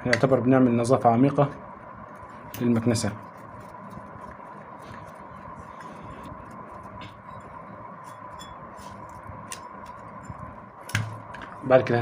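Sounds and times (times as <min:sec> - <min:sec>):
faint steady hum: 0:00.0 - 0:12.0
steady background hiss: 0:00.0 - 0:12.0.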